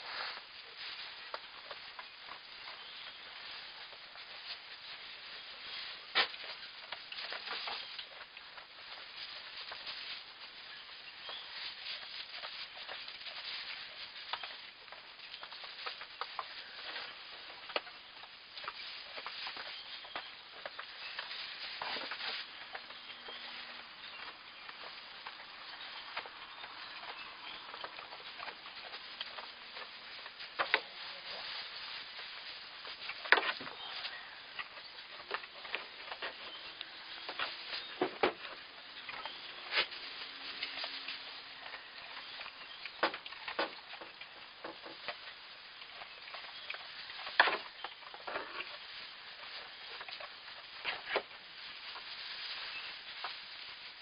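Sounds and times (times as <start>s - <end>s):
straw rustling and crackling: 0.0s - 54.0s.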